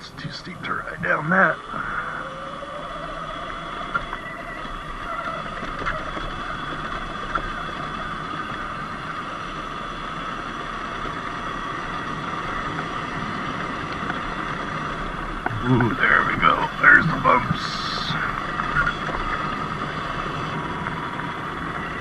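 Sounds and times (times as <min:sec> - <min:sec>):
wind: 0:00.0 - 0:22.0
tyre noise on dirt road: 0:00.6 - 0:22.0
electric motor whine: 0:00.7 - 0:22.0.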